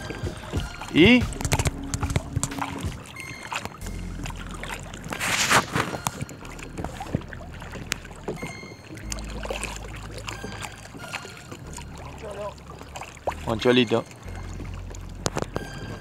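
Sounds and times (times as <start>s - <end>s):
water slapping against boat hull: 0.0s - 16.0s
water surge: 0.0s - 16.0s.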